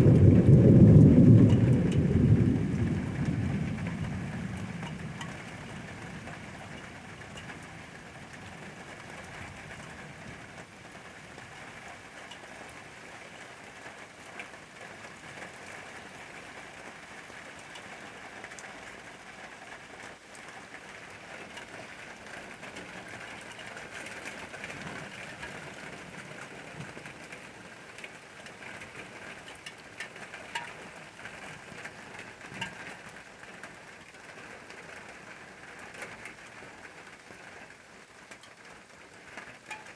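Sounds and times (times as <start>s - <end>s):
rain drops ticking on hard surface: 0.0s - 39.9s
steady rain hiss: 0.0s - 39.9s.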